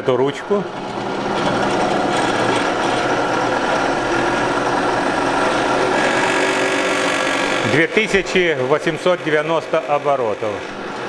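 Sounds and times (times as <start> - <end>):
drill press motor running: 0.0 - 11.0.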